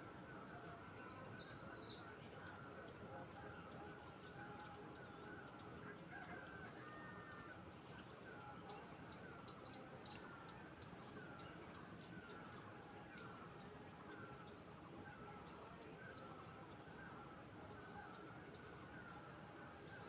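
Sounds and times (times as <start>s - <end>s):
faint background sound: 0.0s - 20.0s
songbird singing: 0.0s - 20.0s.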